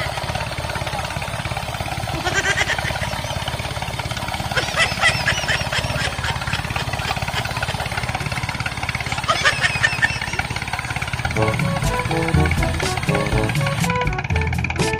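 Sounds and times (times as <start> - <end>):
rapid even chugging engine: 0.0 - 14.9.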